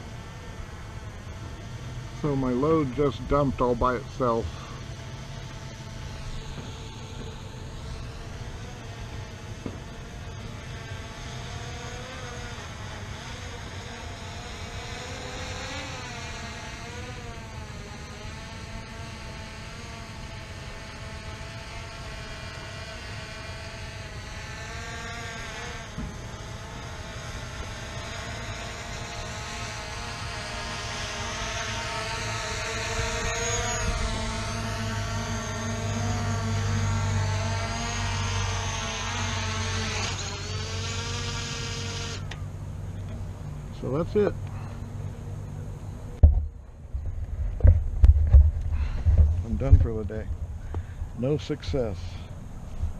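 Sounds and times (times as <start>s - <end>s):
drone propellers buzzing: 0.0s - 52.9s.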